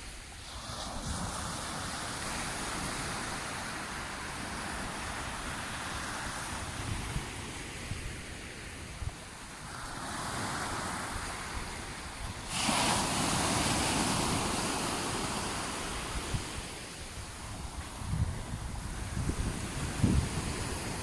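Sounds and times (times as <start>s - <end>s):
sea waves breaking: 0.0s - 21.0s
wind rumble on microphone: 0.0s - 21.0s.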